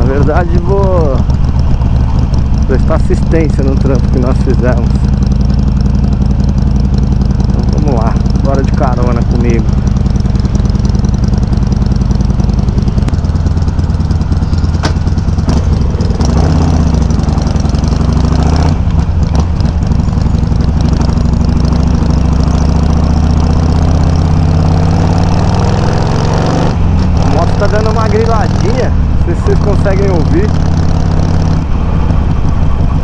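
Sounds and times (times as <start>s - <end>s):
motorcycle engine running loud: 0.0s - 33.0s.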